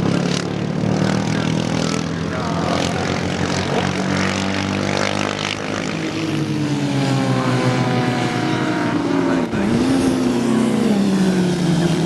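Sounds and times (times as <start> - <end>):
motorcycle engines running hard: 0.0 - 12.0.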